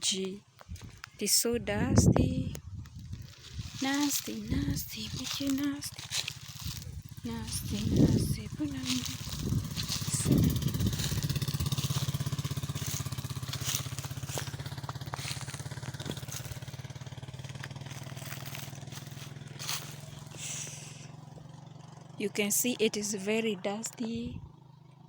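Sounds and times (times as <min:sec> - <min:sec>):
vehicle engine pulsing: 0:01.7 - 0:25.0.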